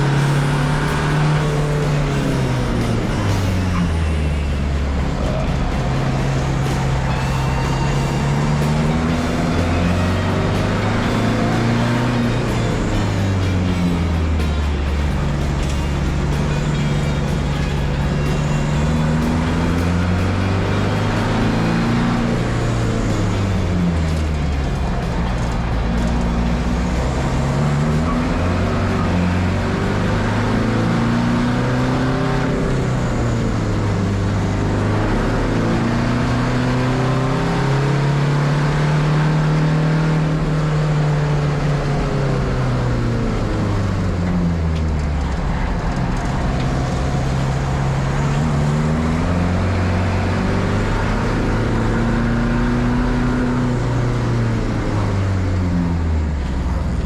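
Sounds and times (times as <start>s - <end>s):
car engine rising and falling: 0.0s - 57.0s.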